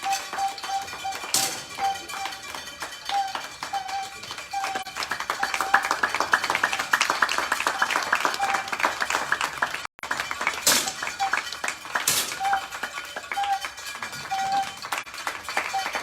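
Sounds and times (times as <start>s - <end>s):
higher-pitched bell struck rapidly: 0.0s - 9.0s, 10.3s - 16.0s
cowbell shaken: 0.0s - 9.2s, 10.1s - 16.0s.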